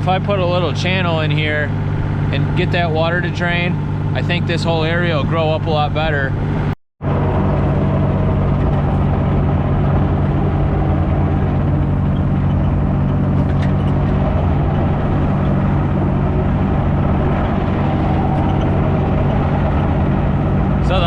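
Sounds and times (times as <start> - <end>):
excavator engine running under load: 0.0 - 21.0.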